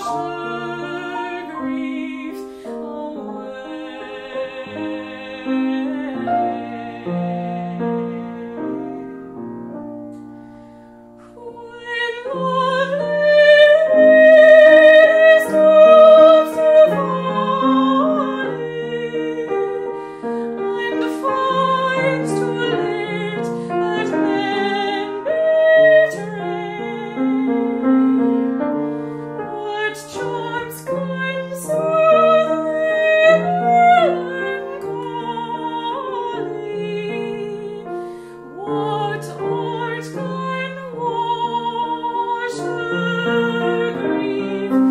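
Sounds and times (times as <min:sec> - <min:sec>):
woman singing with vibrato: 0:00.0 - 0:08.7, 0:11.3 - 0:20.0, 0:20.6 - 0:28.0, 0:29.5 - 0:37.9, 0:38.6 - 0:44.9
piano accompaniment: 0:00.0 - 0:44.9.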